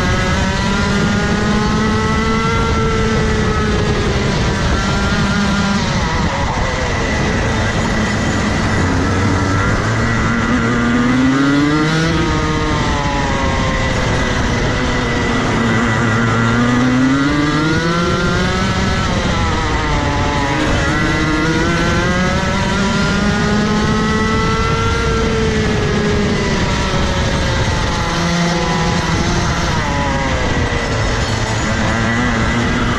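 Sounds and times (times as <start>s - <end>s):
kart engine at race pace: 0.0s - 32.9s.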